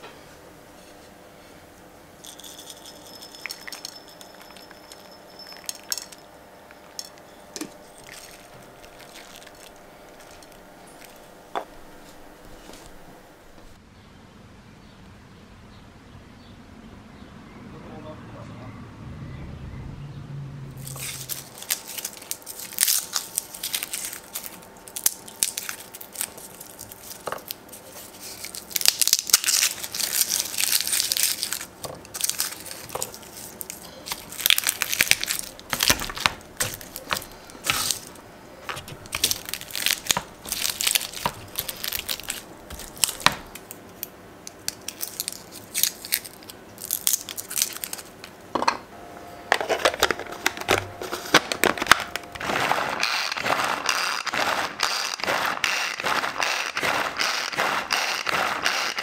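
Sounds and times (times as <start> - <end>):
garlic skins crackling: 2.2 - 13.0, 20.8 - 48.3, 49.6 - 59.0.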